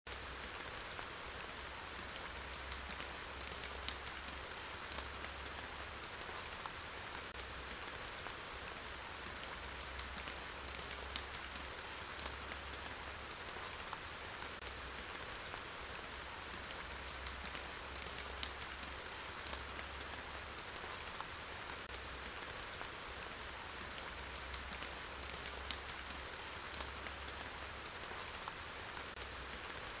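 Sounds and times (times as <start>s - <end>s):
raindrops ticking: 0.1s - 30.0s
steady rain hiss: 0.1s - 30.0s.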